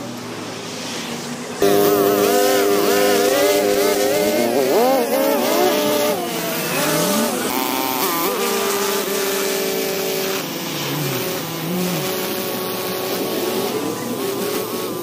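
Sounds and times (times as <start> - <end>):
string trimmer engine at full throttle: 1.6 - 15.0.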